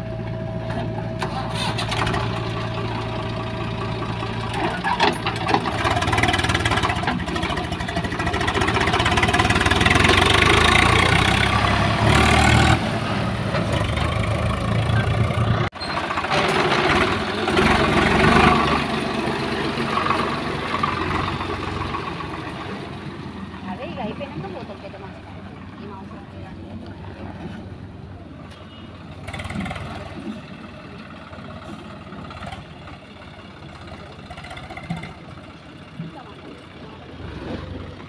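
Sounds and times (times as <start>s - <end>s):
tractor diesel engine under load: 0.0s - 38.0s.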